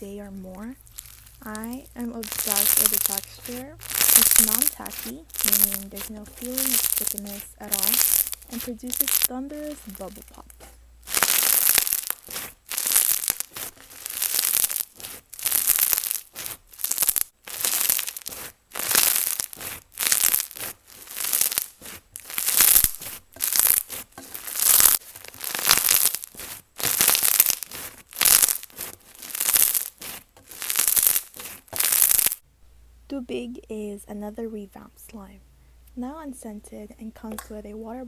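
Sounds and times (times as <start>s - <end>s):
slime crackling and popping: 0.0s - 32.4s, 37.2s - 37.8s.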